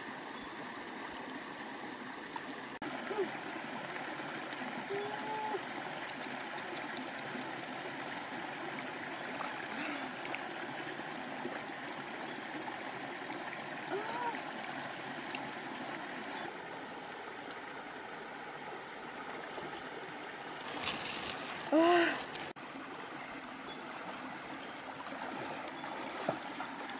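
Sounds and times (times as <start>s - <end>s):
stream flowing over rocks: 0.0s - 26.9s.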